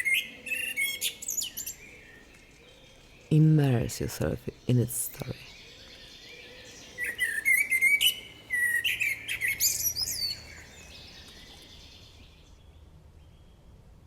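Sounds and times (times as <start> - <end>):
blackbird singing: 0.0 - 13.7
faint background hiss: 0.0 - 14.0.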